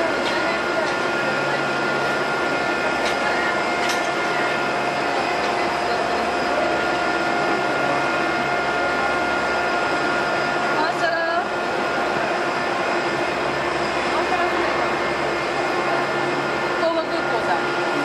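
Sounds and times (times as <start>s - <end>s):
jet engines idling: 0.0s - 18.0s.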